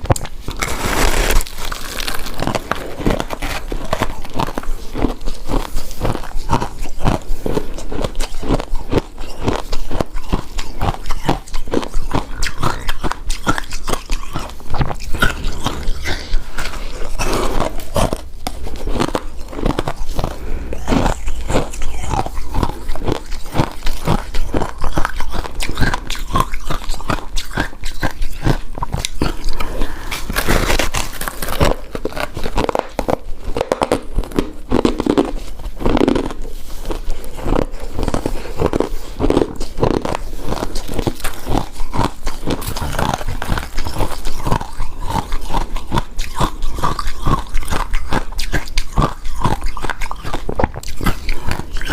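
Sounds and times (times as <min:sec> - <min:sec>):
person chewing crunchy ice: 0:00.0 - 0:51.9.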